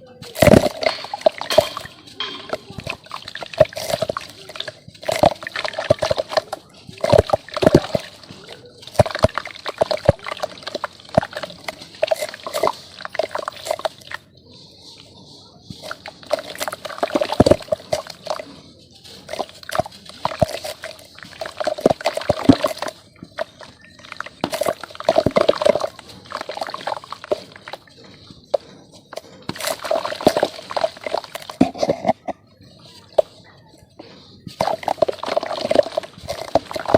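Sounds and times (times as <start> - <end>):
wet dirt crunching in water: 0.2 - 14.3, 15.7 - 33.4, 34.5 - 36.9.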